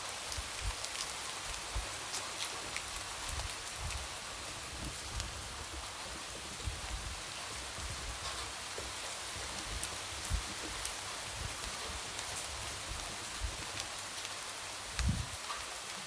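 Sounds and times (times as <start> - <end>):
light rain hissing: 0.0 - 16.0.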